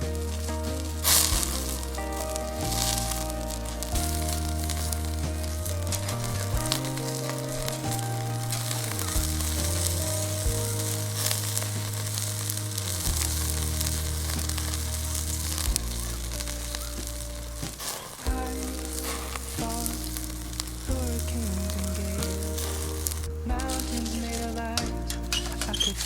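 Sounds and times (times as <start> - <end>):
background music with bass notes: 0.0 - 26.0
wood fire sizzling and crackling: 0.0 - 26.0.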